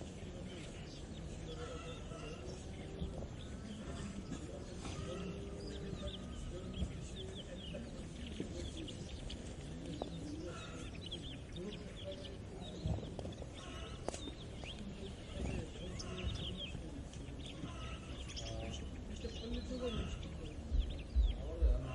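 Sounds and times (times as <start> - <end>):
small birds chirping: 0.0 - 21.9
chickens clucking: 0.3 - 21.9.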